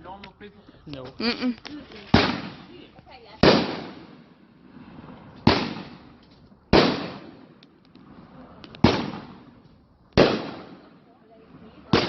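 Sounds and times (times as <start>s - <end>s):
faint fireworks crackles: 0.0s - 12.0s
fireworks booming: 2.1s - 12.0s.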